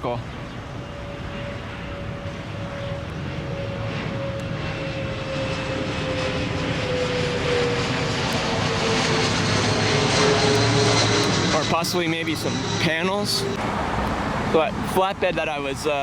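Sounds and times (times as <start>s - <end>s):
airplane engines passing overhead: 0.0s - 16.0s.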